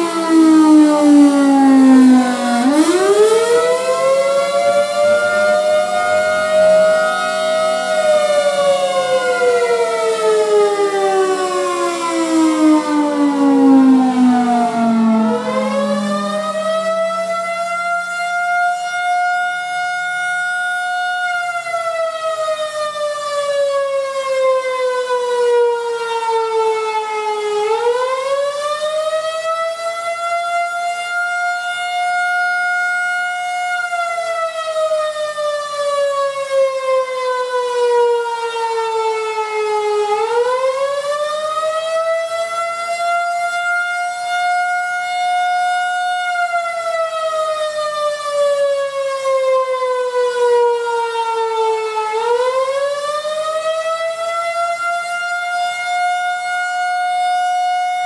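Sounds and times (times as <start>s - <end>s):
warning sirens wailing: 0.0s - 58.0s.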